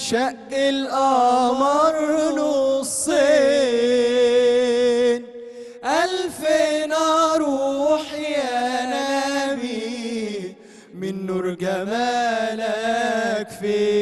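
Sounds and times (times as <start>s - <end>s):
young men singing in unison: 0.0s - 5.2s, 5.8s - 14.0s.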